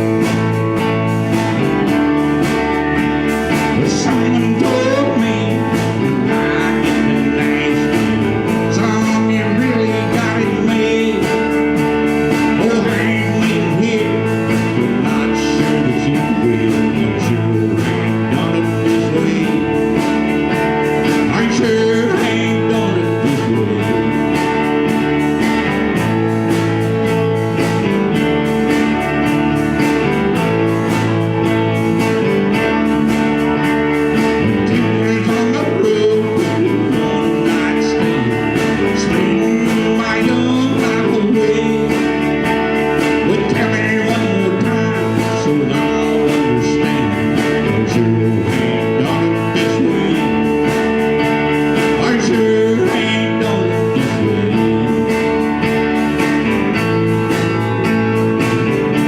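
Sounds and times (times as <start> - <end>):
country blues band playing: 0.0 - 59.0
guitar: 0.0 - 59.0
person singing: 0.0 - 59.0.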